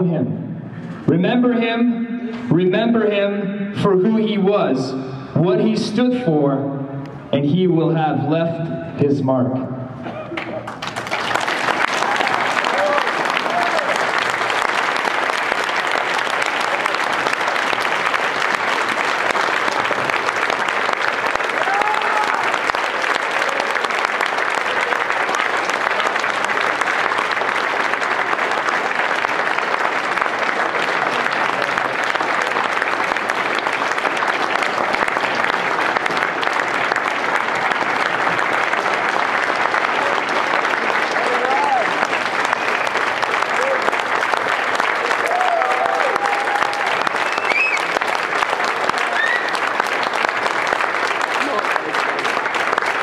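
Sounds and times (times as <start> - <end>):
crowd applauding: 10.0 - 53.0.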